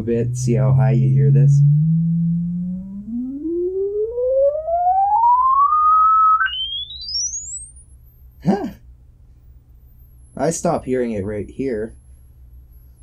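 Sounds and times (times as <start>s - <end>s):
sine tone rising in pitch: 0.0s - 8.5s, 9.4s - 10.6s, 11.9s - 13.0s.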